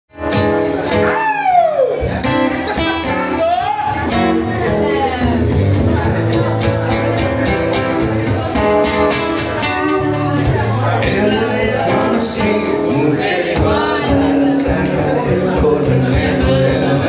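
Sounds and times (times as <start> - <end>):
acoustic guitar: 0.1 - 17.0.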